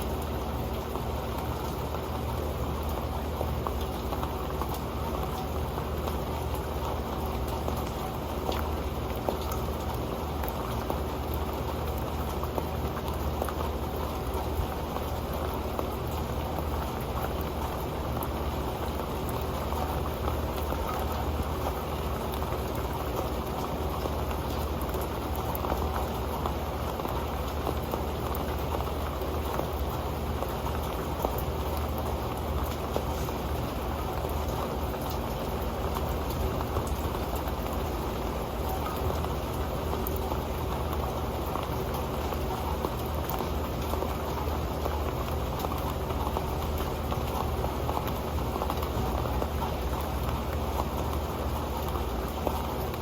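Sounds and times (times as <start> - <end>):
rain patter: 0.0 - 53.0.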